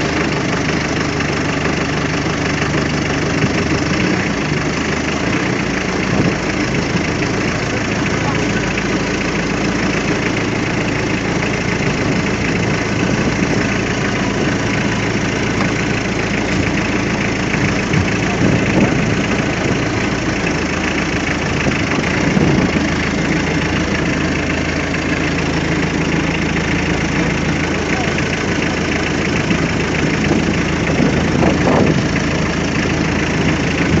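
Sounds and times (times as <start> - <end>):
boat engine idling: 0.0 - 34.0.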